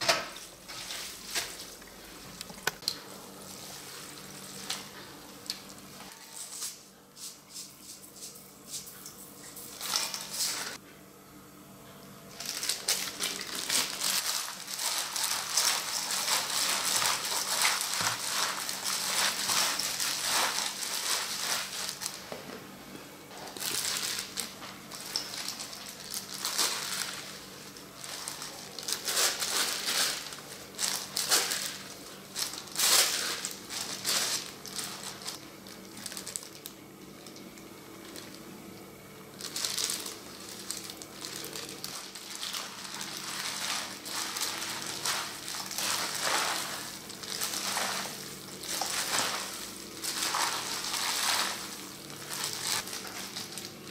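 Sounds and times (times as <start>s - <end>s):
gloved hands mixing food: 0.0s - 10.8s, 12.3s - 53.9s
faint steady hum: 0.0s - 53.9s.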